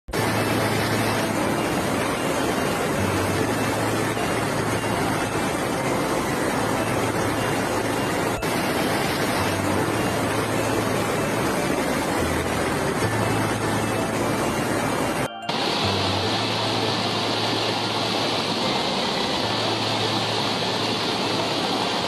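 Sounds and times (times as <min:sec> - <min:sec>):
floodwater rushing: 0:00.1 - 0:22.0
low hum: 0:00.1 - 0:22.0.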